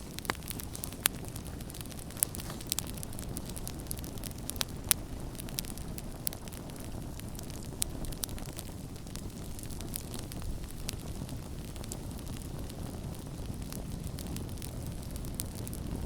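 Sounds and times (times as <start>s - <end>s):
burning wood crackling: 0.0s - 16.0s
low rumble of flames: 0.0s - 16.0s.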